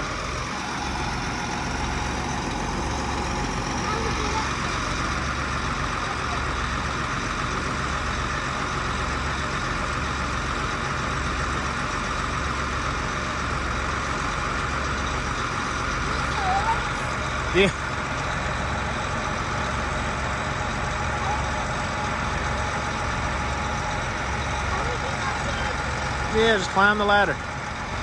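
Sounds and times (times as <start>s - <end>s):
heavy machinery engine running: 0.0s - 28.0s.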